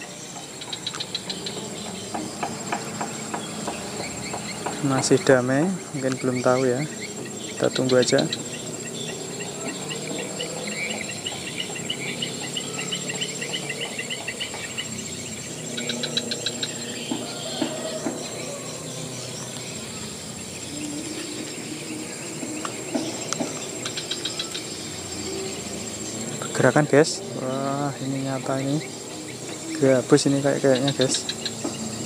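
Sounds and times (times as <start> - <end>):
high-pitched insect drone: 0.0 - 32.0
rapid cricket-like trills: 0.0 - 32.0.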